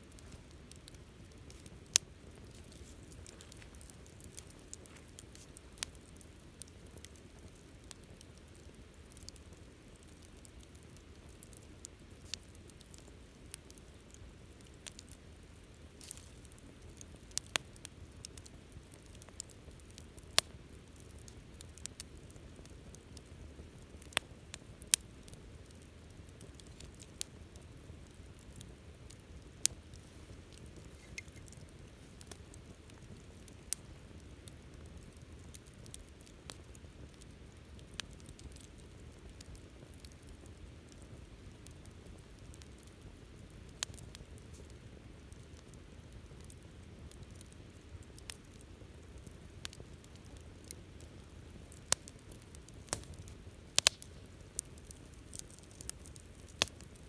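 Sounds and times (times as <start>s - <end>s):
campfire rumbling: 0.0s - 57.0s
fire crackles and pops: 0.0s - 57.0s.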